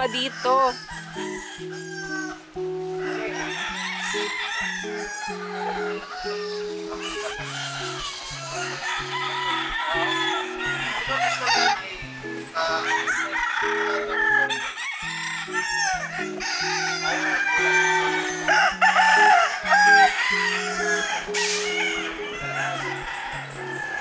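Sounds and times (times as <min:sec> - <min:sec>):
background music with held notes: 0:00.0 - 0:24.0
hens clucking: 0:00.0 - 0:24.0
roosters crowing: 0:00.0 - 0:24.0.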